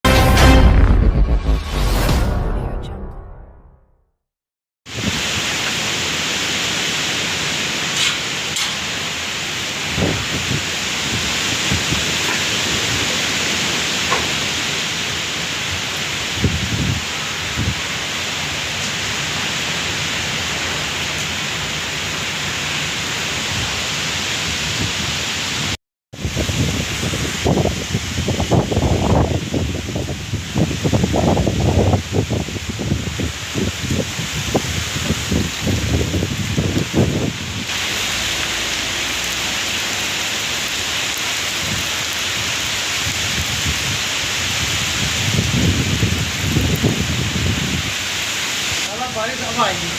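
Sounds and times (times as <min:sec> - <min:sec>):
rain pouring: 0:04.9 - 0:49.9.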